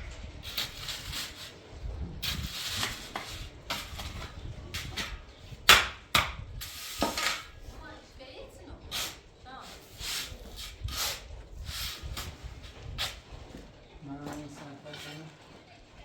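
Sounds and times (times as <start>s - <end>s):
scraping noises: 0.0s - 5.6s, 6.4s - 16.0s.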